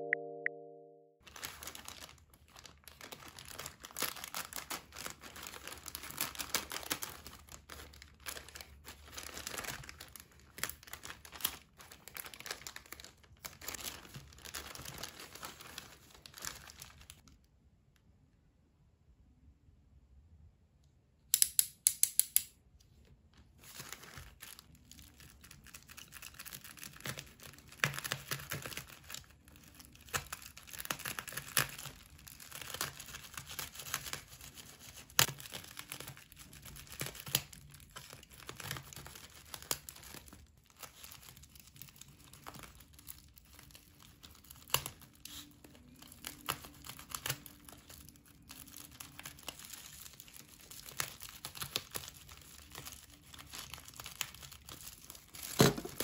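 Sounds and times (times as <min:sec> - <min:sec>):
plastic crinkling and rustling: 0:01.2 - 0:17.4, 0:23.0 - 0:56.0.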